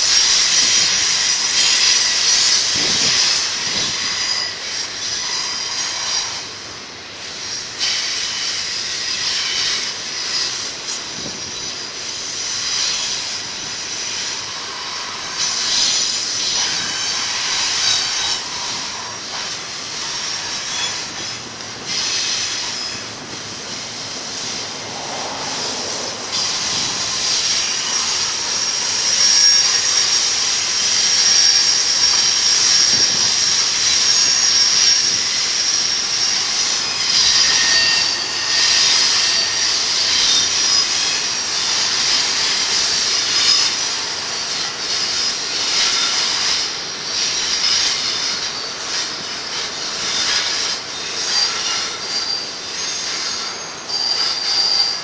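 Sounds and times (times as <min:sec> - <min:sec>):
train rolling: 0:00.0 - 0:55.0
train wheels squealing on rails: 0:00.0 - 0:55.0.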